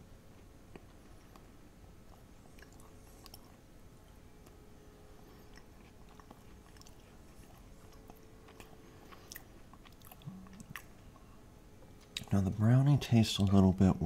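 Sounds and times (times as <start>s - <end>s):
faint chewing: 0.2s - 12.6s.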